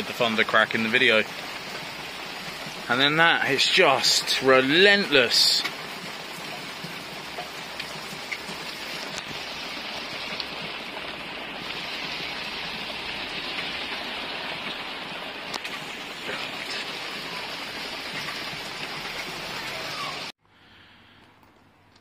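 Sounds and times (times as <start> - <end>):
faint ticks of raindrops: 0.0 - 19.8
heavy rain hissing: 0.0 - 20.3.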